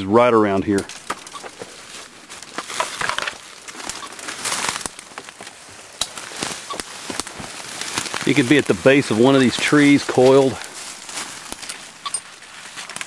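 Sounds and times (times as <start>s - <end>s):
branches brushing and snapping: 0.5s - 13.0s
footsteps in dry leaves: 0.5s - 13.0s.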